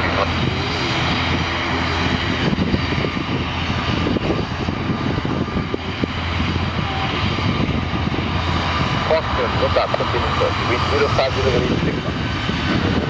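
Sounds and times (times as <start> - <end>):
jet engines on runway: 0.0 - 13.0.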